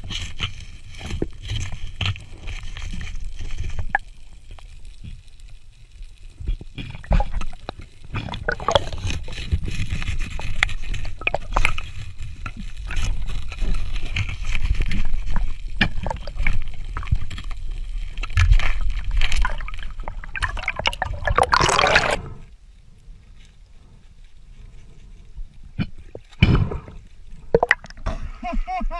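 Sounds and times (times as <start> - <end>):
underwater clicks and crackles: 0.0 - 28.3
underwater rumble of moving water: 0.0 - 28.4.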